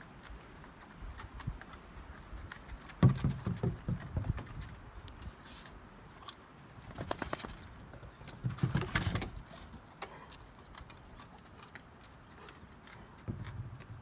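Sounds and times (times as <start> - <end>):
dog paws scuffling and claws clicking: 0.2 - 14.0.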